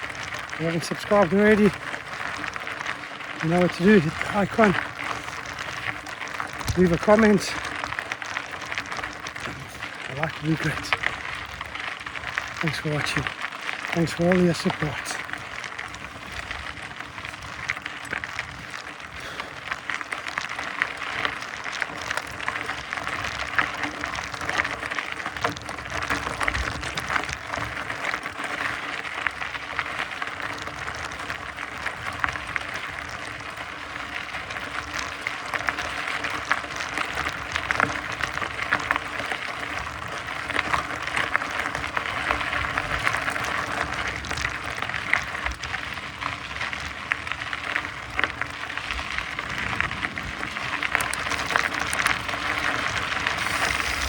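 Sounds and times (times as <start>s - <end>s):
bike tyres rolling on gravel: 0.0s - 54.0s.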